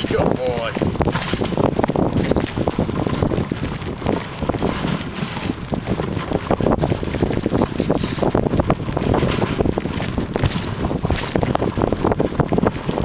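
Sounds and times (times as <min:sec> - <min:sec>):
sled knocking and rattling: 0:00.0 - 0:13.0
sled runners scraping on snow: 0:00.0 - 0:13.0
wind buffeting microphone: 0:00.0 - 0:13.0.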